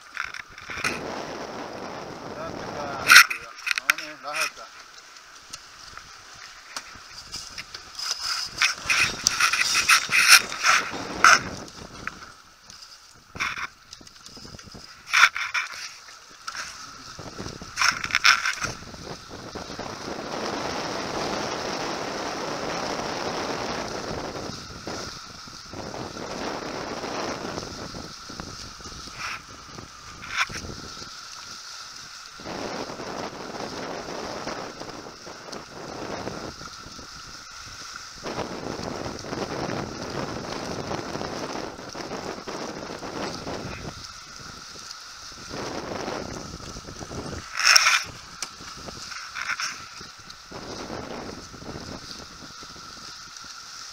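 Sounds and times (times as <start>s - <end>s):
rush of wind and water: 0.0s - 53.9s.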